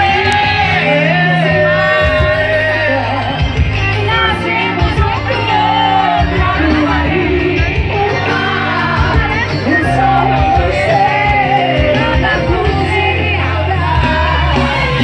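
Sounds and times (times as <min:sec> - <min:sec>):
live band music: 0:00.0 - 0:15.0
person singing: 0:00.0 - 0:15.0.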